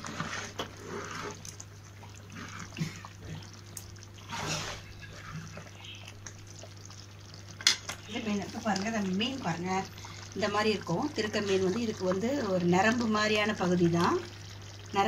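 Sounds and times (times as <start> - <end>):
curry sloshing and dripping: 0.0 - 15.0.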